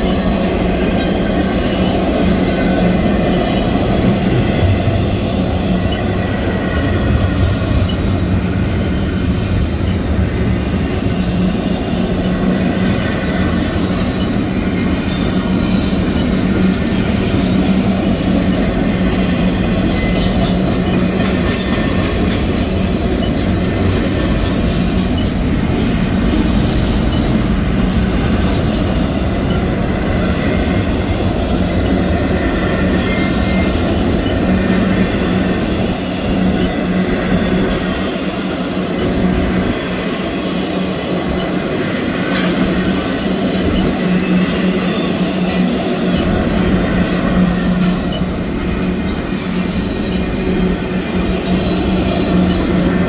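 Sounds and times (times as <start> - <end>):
faint high wheel squeal: 0.0 - 53.0
train wheels rumbling on rail: 0.0 - 53.0.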